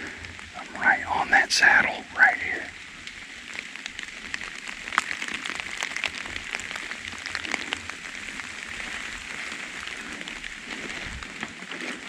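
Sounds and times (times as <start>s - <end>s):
raindrops ticking close by: 0.0s - 12.0s
steady rain hiss: 0.0s - 12.0s.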